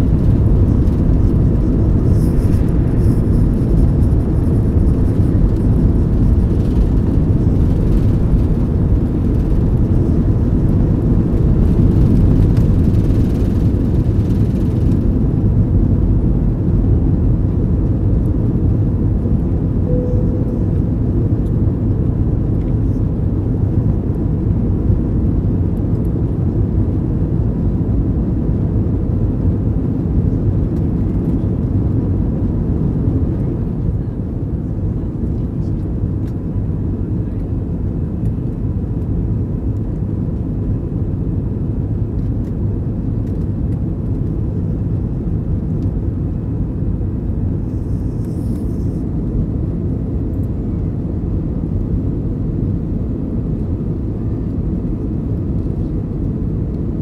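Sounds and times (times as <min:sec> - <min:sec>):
jet engines and airflow roar: 0:00.0 - 0:57.0.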